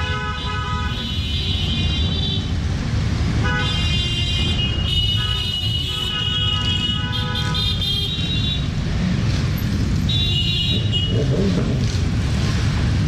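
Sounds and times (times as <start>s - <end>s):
motorcycle engines rumbling: 0.0s - 13.0s.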